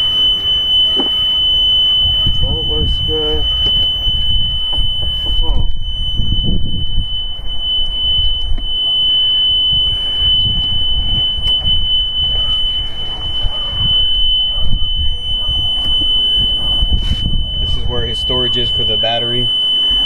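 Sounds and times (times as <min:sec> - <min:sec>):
high-pitched warning horn tone: 0:00.0 - 0:20.0.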